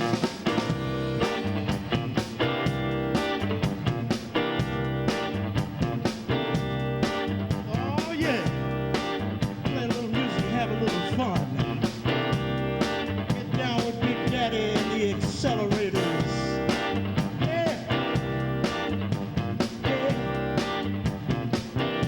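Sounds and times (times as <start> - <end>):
electric guitar with bent notes: 0.0 - 22.0
live rock band playing: 0.0 - 22.0.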